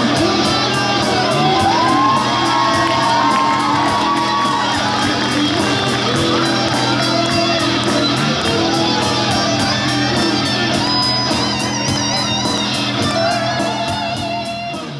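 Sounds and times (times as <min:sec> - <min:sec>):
drum kit beat: 0:00.0 - 0:14.9
keyboard: 0:00.0 - 0:14.9
strummed electric guitars: 0:00.0 - 0:14.9.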